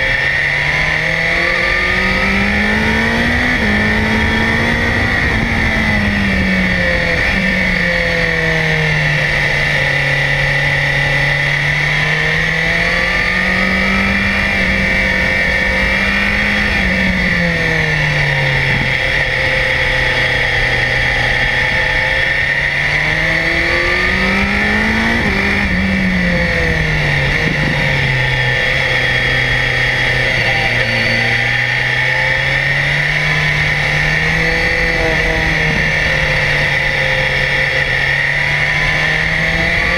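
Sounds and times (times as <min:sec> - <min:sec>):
motorcycle engine running under load: 0:00.0 - 0:39.9
wind and road noise: 0:00.0 - 0:39.9.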